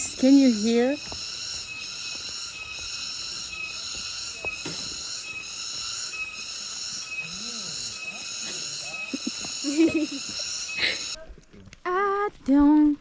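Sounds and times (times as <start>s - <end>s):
cicadas buzzing: 0.0s - 11.2s.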